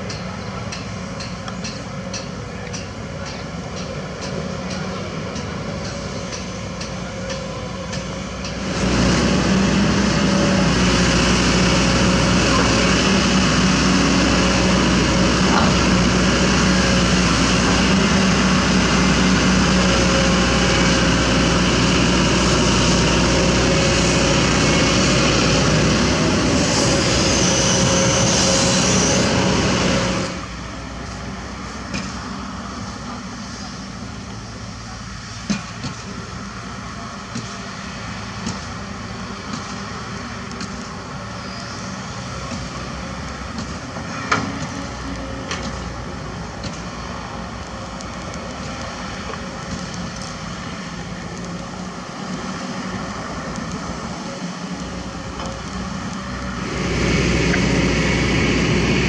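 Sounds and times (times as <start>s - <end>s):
distant excavator engine: 0.0s - 59.0s
excavator diesel engine running: 0.0s - 59.0s.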